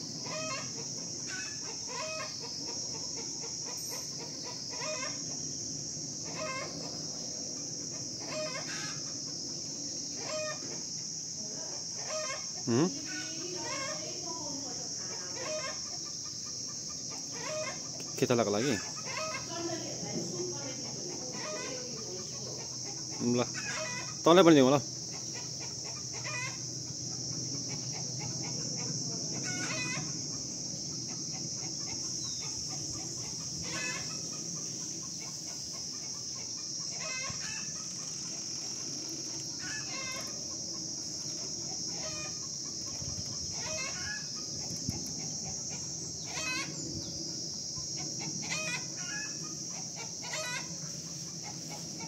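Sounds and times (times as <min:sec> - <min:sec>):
chickens clucking: 0:00.0 - 0:05.6, 0:06.2 - 0:11.1, 0:11.8 - 0:14.2, 0:14.8 - 0:52.0
high-pitched insect drone: 0:00.0 - 0:52.0.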